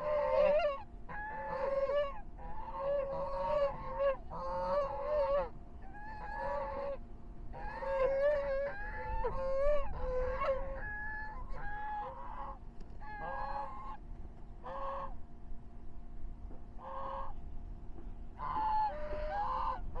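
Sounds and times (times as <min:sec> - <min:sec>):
geese honking: 0:00.0 - 0:14.0, 0:14.6 - 0:15.2, 0:16.8 - 0:17.4, 0:18.4 - 0:20.0.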